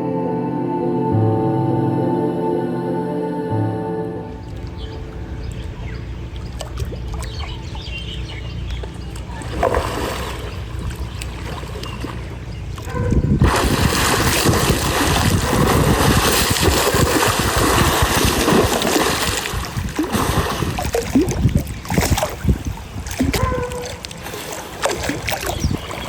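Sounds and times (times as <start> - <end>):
water splashing and churning: 4.3 - 26.0.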